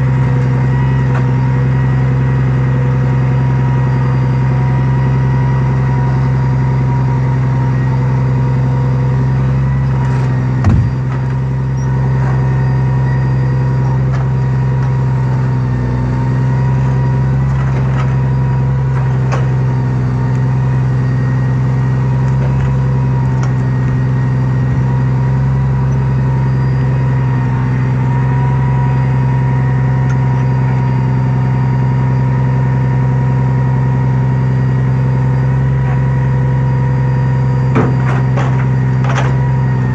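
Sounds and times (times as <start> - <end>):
loader stacking logs: 0.0 - 39.9
truck engine running: 0.0 - 39.9.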